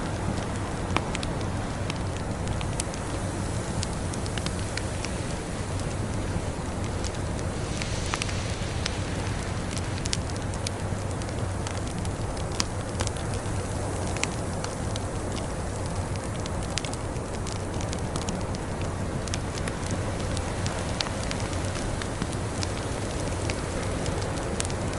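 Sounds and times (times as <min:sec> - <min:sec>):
low rumble of flames: 0:00.0 - 0:24.9
wood fire crackling and popping: 0:00.0 - 0:24.9.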